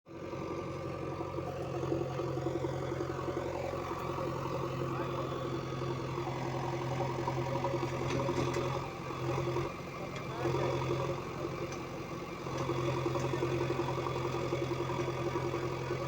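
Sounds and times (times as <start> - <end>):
diesel engine running steadily: 0.1 - 16.0.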